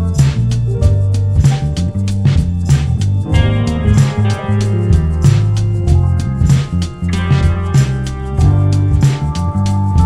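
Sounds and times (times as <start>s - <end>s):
blues band music: 0.0s - 10.0s.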